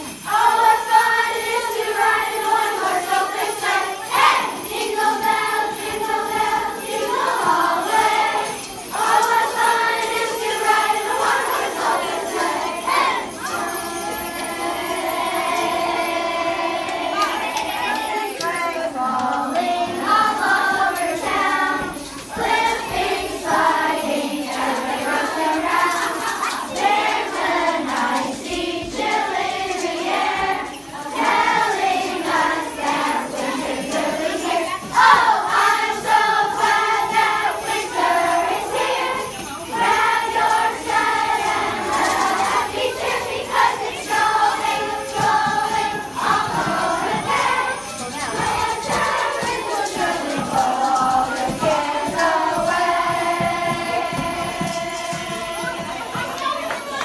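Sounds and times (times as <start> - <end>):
children singing together: 0.0 - 57.0.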